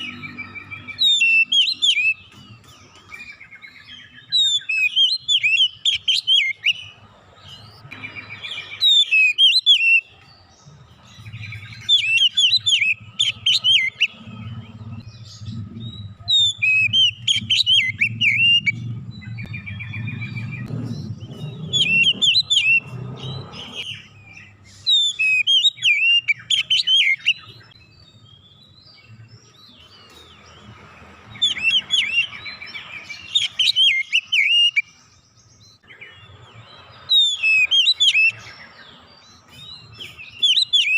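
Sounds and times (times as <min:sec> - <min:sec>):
songbird whistles and chirps: 0:00.0 - 0:40.9.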